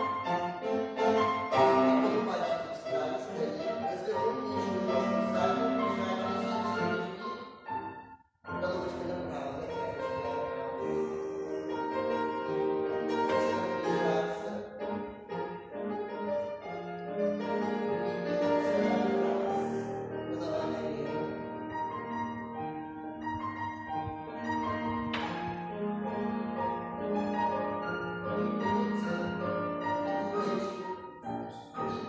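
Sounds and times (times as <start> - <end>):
classical music with piano: 0.0 - 32.0.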